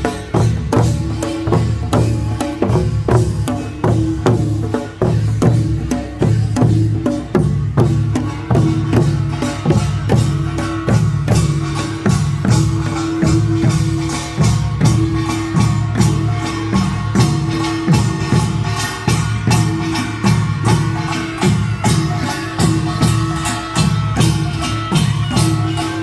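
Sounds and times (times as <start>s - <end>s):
clanging small gongs: 0.0s - 26.0s
drums: 0.0s - 26.0s.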